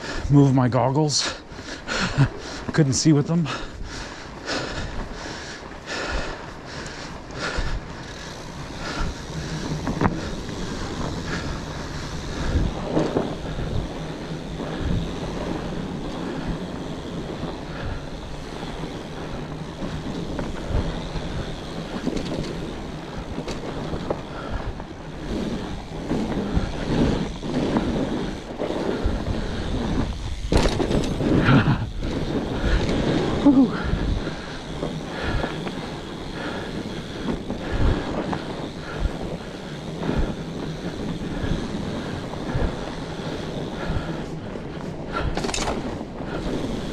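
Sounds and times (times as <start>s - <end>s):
bike knocking and rattling: 0.0s - 46.9s
wide tyres rolling on trail: 0.0s - 46.9s
wind on microphone: 3.4s - 46.9s.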